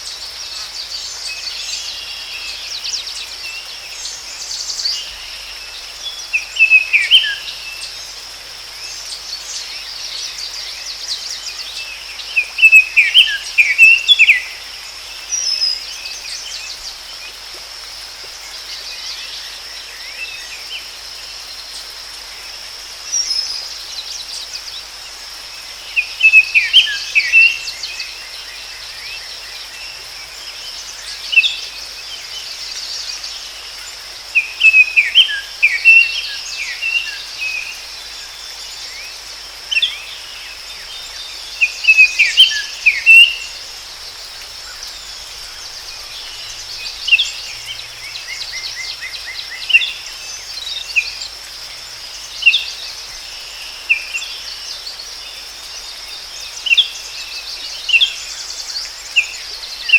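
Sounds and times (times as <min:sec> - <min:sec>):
high insect drone: 0:00.0 - 0:59.9
songbirds chirping: 0:00.0 - 0:59.9.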